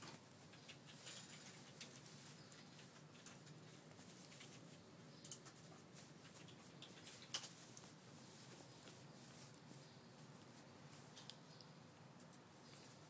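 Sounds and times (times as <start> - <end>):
faint rustling: 0.0 - 13.0.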